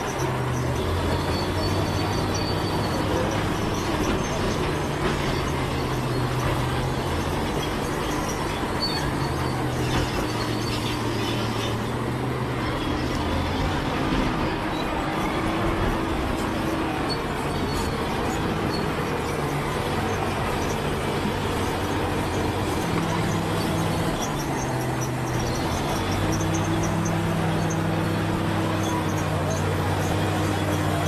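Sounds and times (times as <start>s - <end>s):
bulldozer diesel engine: 0.0s - 31.0s
steel tracks squeaking and clanking: 0.0s - 31.0s.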